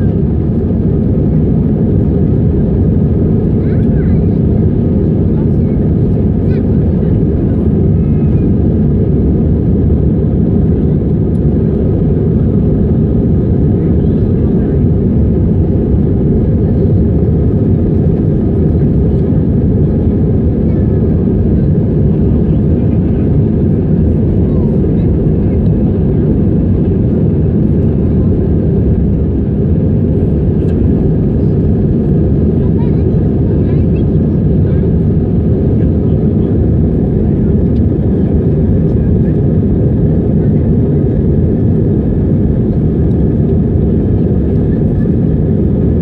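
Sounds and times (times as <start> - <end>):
jet engine cabin rumble: 0.0 - 46.0.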